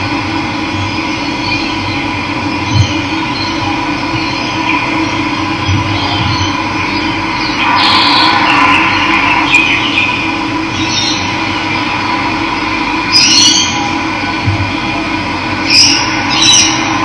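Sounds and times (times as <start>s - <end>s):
birds chirping: 0.9s - 14.1s, 15.6s - 17.0s.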